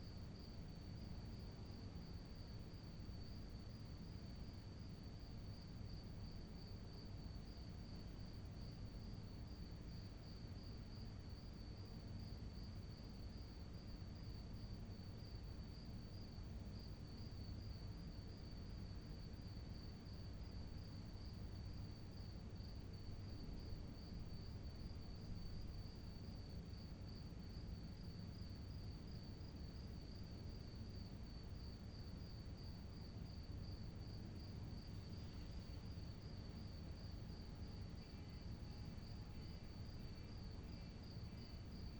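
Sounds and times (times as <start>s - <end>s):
crickets trilling: 0.4s - 41.9s.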